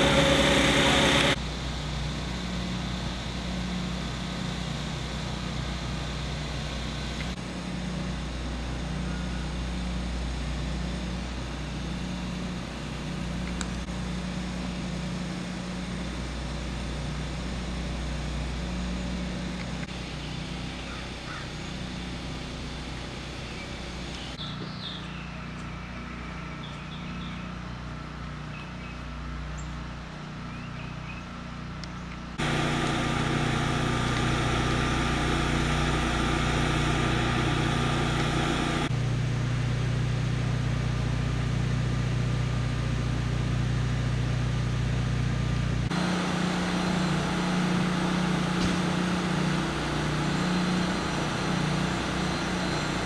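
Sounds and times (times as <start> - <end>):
low engine hum: 0.0 - 53.0.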